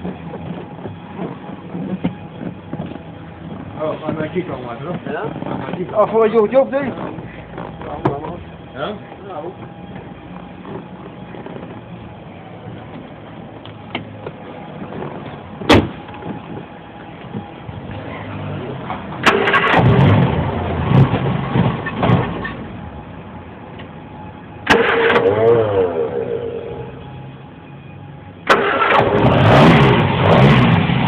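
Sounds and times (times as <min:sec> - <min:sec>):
car engine cranking: 0:00.0 - 0:22.8, 0:24.6 - 0:27.2, 0:28.4 - 0:31.0.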